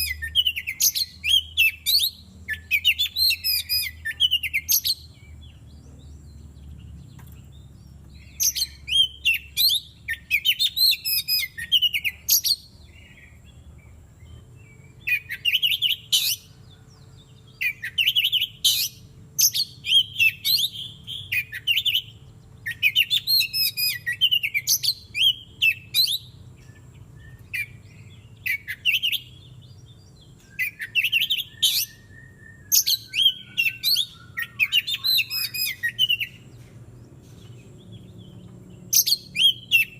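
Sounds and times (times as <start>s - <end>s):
bird singing whistles and trills: 0.0s - 36.6s, 37.3s - 39.9s.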